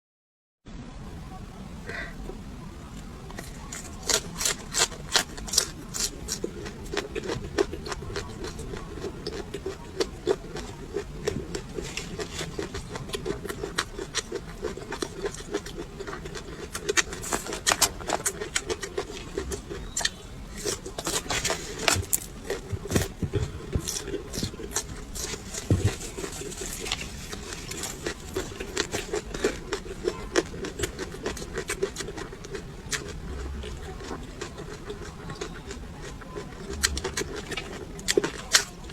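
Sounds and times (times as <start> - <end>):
faint steady hum: 0.7 - 38.9
chewing crunchy peppers: 1.9 - 38.9.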